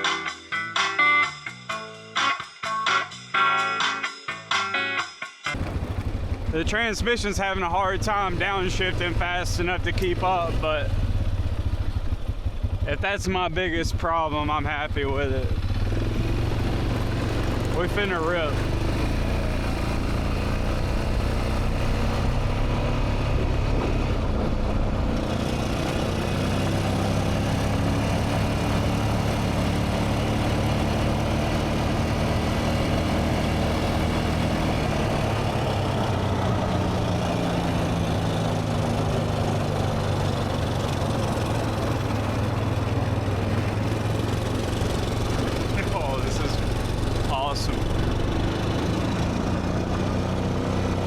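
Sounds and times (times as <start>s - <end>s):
atv engine running: 5.5s - 51.0s.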